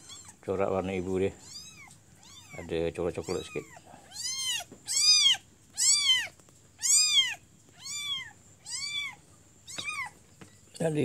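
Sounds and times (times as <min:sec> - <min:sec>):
kitten mewing: 0:01.0 - 0:10.2.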